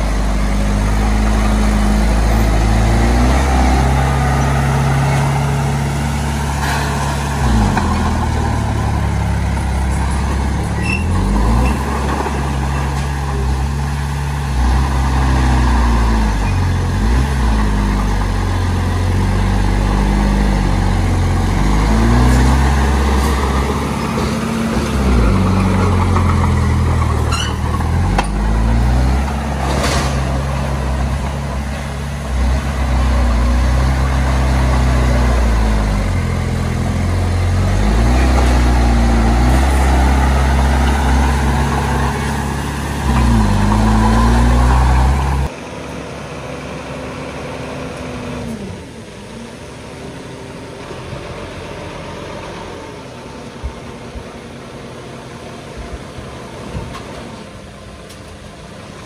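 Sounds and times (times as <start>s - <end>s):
heavy diesel engine under load: 0.0s - 59.0s.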